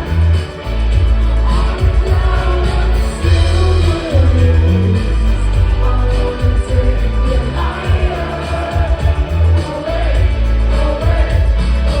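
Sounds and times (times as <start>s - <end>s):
live pop band: 0.0s - 12.0s.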